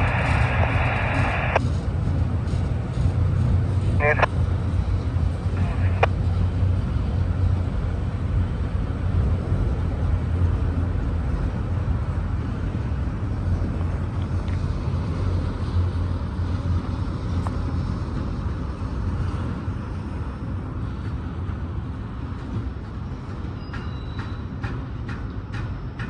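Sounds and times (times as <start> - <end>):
freight train rumbling by: 0.0 - 26.0.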